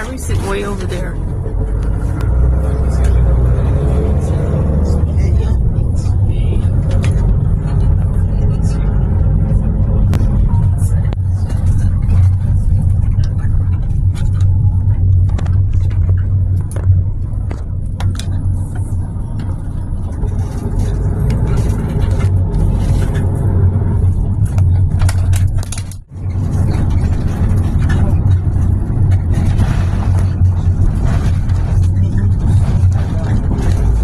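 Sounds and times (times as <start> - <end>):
road and engine drone: 0.0 - 34.0.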